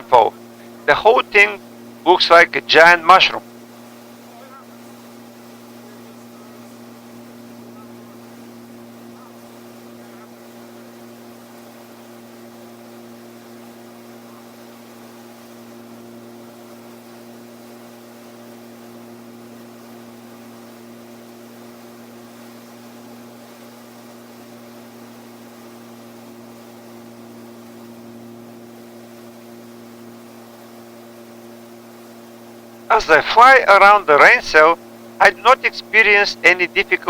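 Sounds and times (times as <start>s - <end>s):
aircraft engine and propeller droning: 0.0s - 37.0s.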